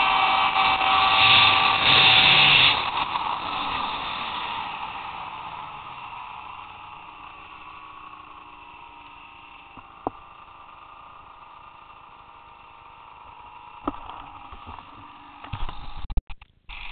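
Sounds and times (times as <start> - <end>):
distant snowmobile engine drone: 0.0 - 16.9.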